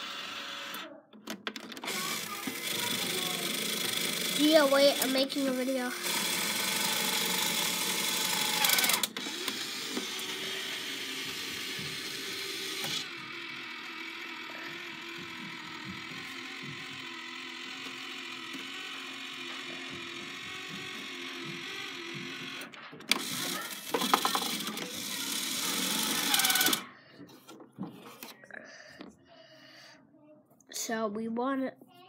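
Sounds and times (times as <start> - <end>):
toy claw machine motors whirring: 0.0 - 26.9.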